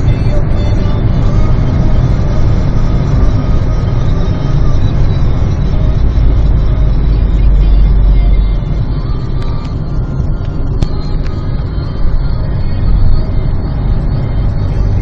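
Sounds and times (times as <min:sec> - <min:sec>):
car cabin engine and road rumble: 0:00.0 - 0:15.0.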